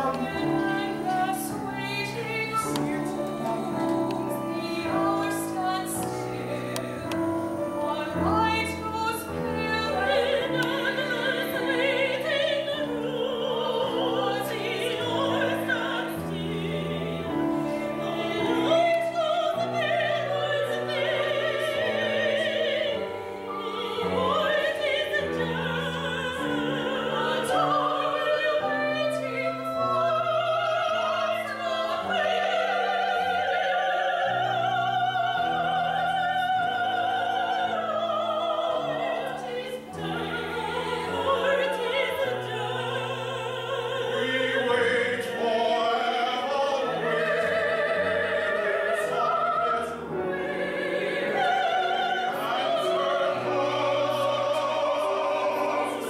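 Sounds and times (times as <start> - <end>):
piano chords: 0.0 - 56.0
women singing opera: 0.0 - 56.0.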